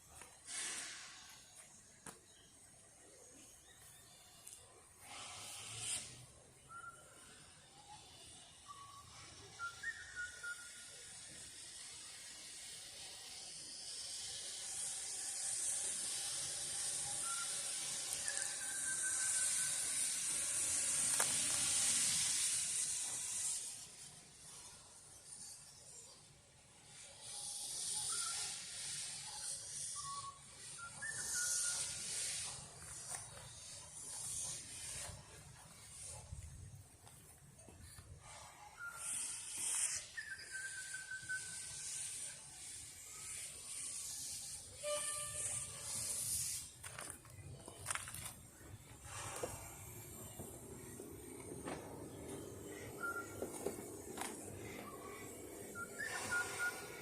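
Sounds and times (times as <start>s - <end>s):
steam locomotive venting steam: 0.0s - 57.0s.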